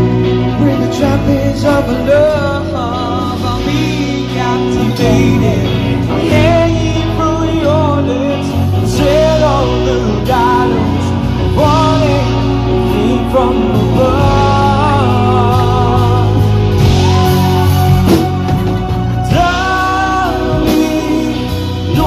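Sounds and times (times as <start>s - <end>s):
electric guitar: 0.0s - 22.0s
lead vocal singing: 0.0s - 22.0s
live band playing: 0.0s - 22.0s.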